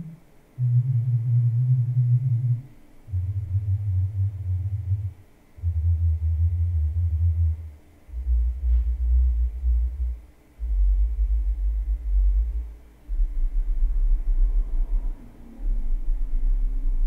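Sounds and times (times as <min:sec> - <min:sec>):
deep bass test tones: 0:00.0 - 0:17.0.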